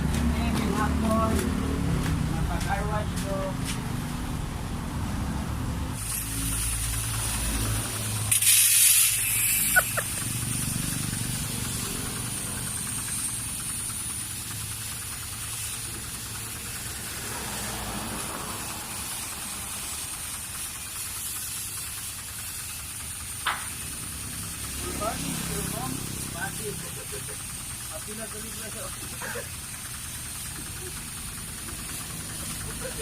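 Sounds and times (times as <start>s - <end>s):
water spraying on a vehicle: 0.0s - 33.0s.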